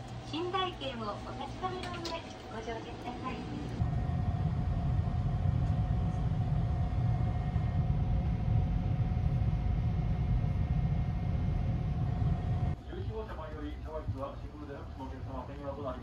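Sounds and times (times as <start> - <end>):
faint steady hum: 0.0 - 16.0
train rumble: 0.0 - 16.0.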